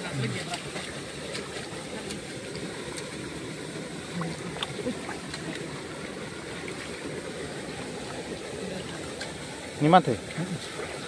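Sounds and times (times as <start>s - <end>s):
hands sloshing in shallow water: 0.4s - 9.6s.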